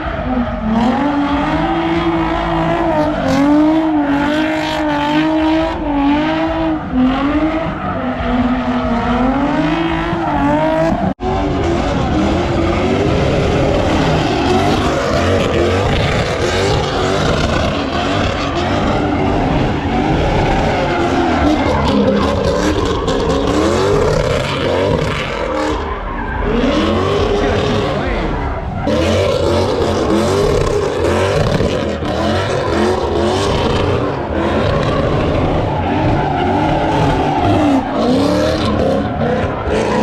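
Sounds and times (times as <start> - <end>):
car engine revving: 0.0 - 40.0
tyres squealing and skidding: 0.0 - 40.0.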